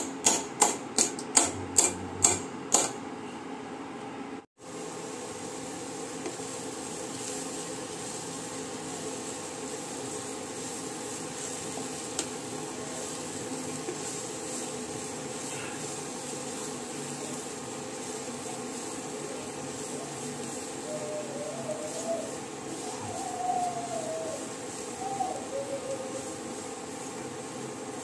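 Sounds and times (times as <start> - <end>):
seeds sizzling in a pan: 4.6 - 28.0
spatula stirring seeds: 4.9 - 28.0.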